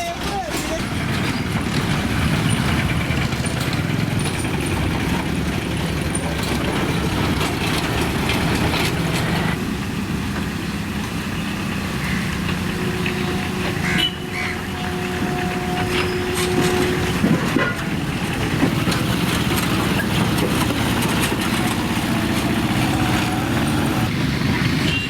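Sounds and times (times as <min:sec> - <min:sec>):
small vehicle engines throbbing: 0:00.0 - 0:25.0
rattles and knocks: 0:00.1 - 0:09.6, 0:12.4 - 0:25.0.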